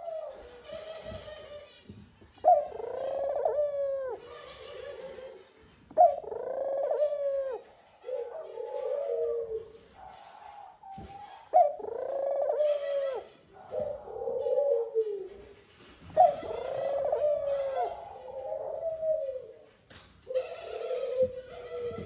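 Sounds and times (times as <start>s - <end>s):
dove rolling coos: 0.0s - 1.8s, 2.4s - 22.0s.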